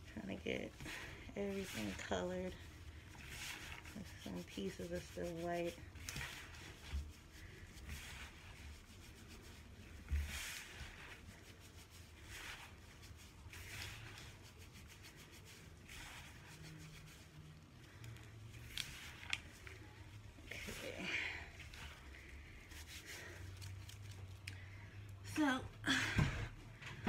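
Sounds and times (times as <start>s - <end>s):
hands swishing powder in bowl: 0.0s - 24.4s.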